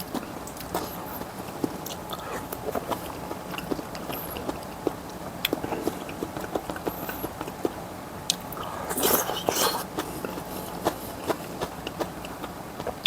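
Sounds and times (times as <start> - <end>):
close chewing mouth clicks: 0.0 - 13.0.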